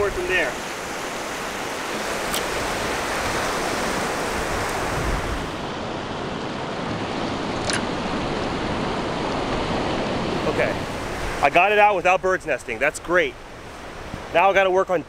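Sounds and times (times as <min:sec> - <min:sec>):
surf waves on sandy beach: 0:00.0 - 0:15.0.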